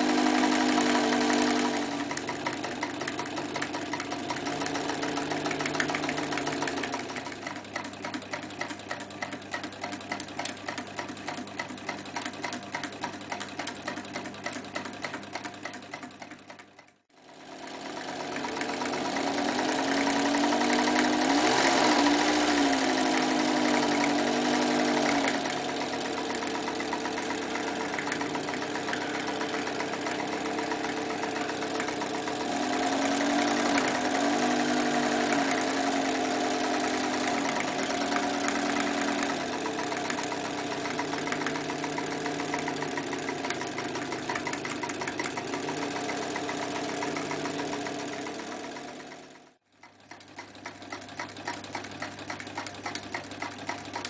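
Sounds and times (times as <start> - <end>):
sewing machine stitching: 0.0 - 54.0.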